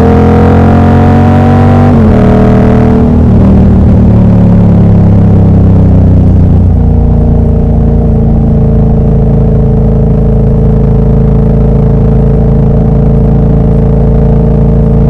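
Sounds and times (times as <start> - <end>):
motorcycle engine running loud: 0.0 - 15.0.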